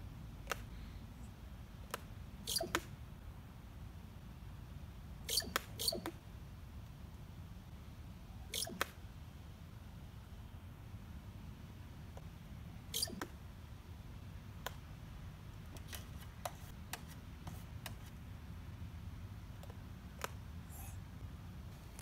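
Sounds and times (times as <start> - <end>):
low steady rumble: 0.0 - 5.3, 6.1 - 22.0.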